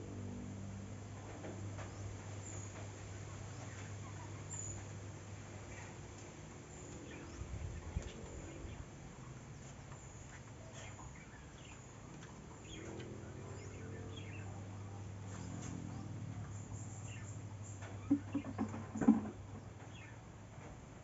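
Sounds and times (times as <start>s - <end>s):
steady low hum: 0.0s - 21.0s
small birds chirping: 1.6s - 20.3s.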